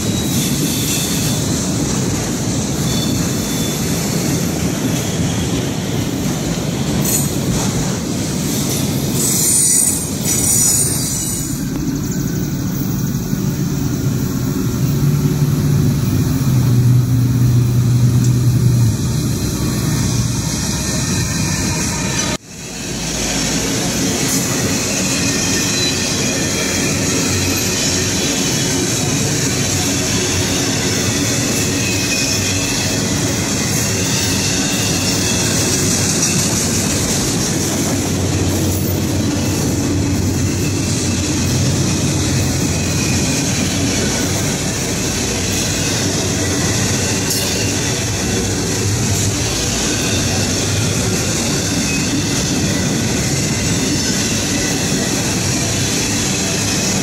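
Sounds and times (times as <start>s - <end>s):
diesel locomotive engine drone: 0.0s - 57.0s
freight train wheels on rails: 0.0s - 57.0s.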